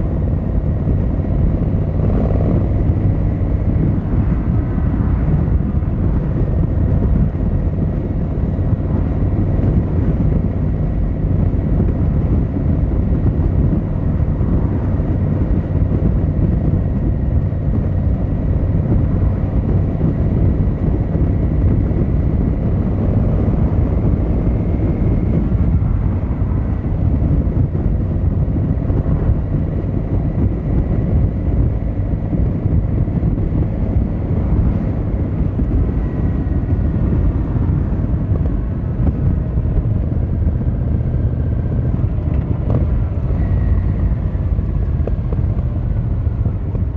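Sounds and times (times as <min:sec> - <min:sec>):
motorcycle engine droning: 0:00.0 - 0:46.9.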